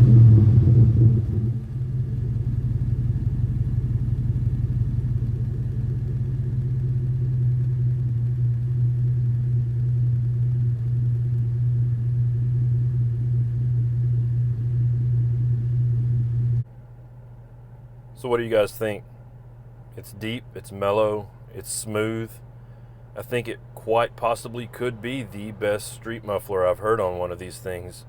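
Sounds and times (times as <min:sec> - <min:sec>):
car exhaust idling: 0:00.0 - 0:28.0.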